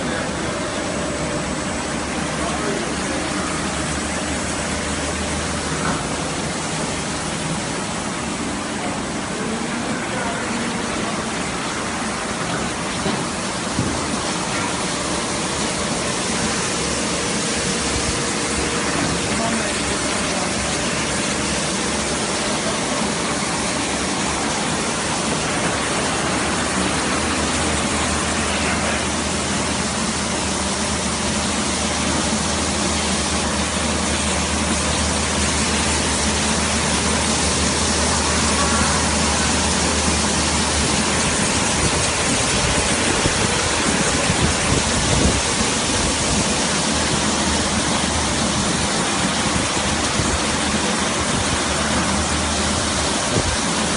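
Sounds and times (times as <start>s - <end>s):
spraying water: 0.0s - 53.9s.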